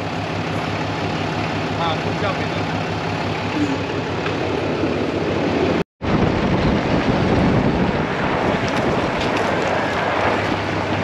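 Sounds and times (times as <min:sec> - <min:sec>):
road and wind noise: 0:00.0 - 0:11.0
truck engine while driving: 0:00.0 - 0:11.0.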